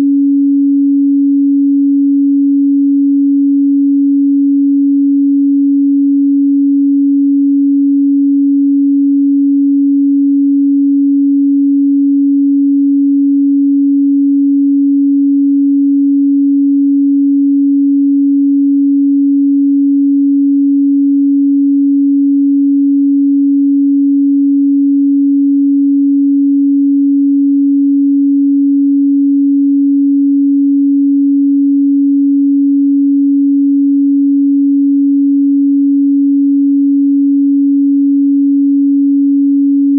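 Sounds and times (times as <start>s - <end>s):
pure sine-wave tone: 0.0s - 39.9s.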